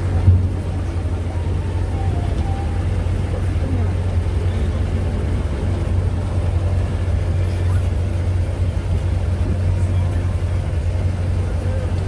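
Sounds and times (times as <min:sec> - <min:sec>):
train engine rumble: 0:00.0 - 0:12.0.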